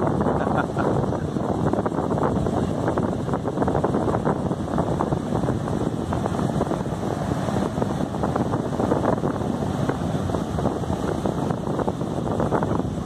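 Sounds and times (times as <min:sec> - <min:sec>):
heavy surf breaking: 0:00.0 - 0:13.0
wind buffeting microphone: 0:00.0 - 0:13.0.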